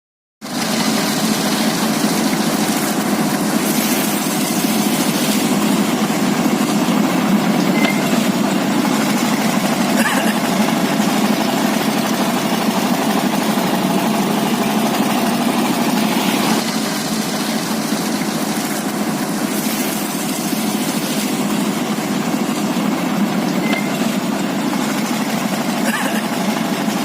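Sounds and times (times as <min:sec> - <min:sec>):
engine running: 0:00.4 - 0:27.0.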